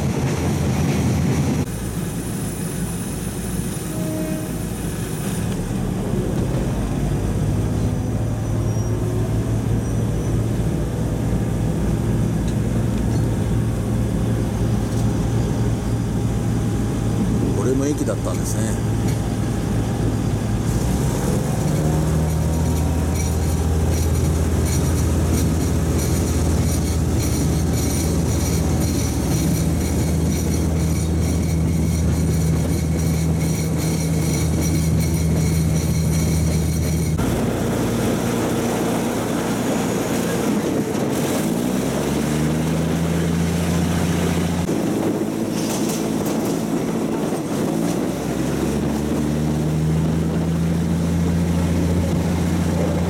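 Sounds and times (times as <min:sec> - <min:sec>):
diesel engine drone: 0:00.0 - 0:53.0
wheel and rail noise: 0:00.0 - 0:53.0.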